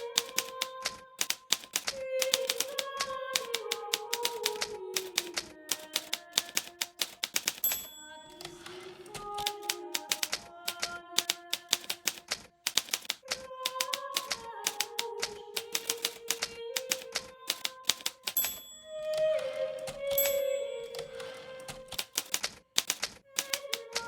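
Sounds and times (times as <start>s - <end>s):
typewriter keys striking: 0.0s - 19.2s, 19.8s - 24.0s.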